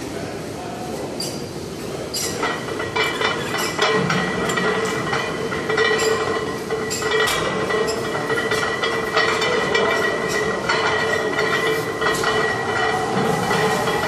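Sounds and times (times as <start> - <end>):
metal weight plates clanking: 2.2 - 14.0
steady high whine: 2.4 - 14.0.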